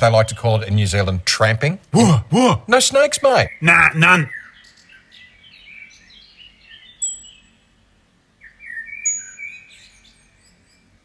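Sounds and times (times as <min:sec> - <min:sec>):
birds twittering: 0:00.0 - 0:11.0.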